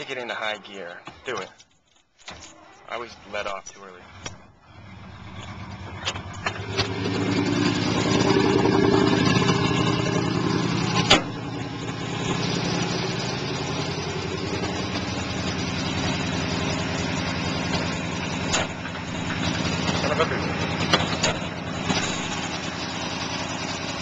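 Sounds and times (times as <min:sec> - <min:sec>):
old car engine idling: 0:03.0 - 0:24.0.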